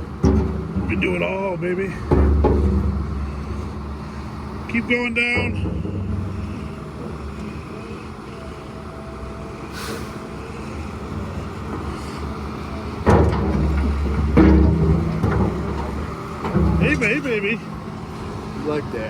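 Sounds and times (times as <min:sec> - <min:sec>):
heavy equipment engine revving: 0:00.0 - 0:19.0.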